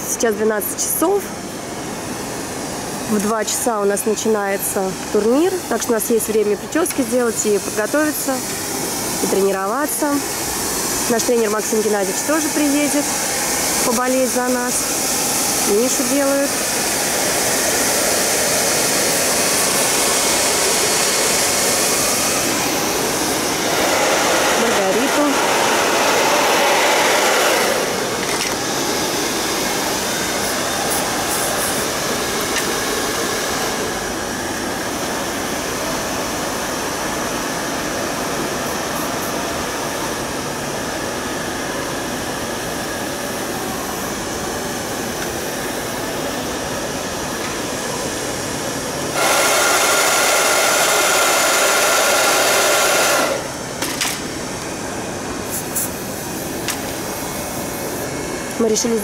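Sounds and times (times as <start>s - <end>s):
hair dryers whooshing: 0.0s - 59.0s
loud hissing blast: 1.3s - 58.9s.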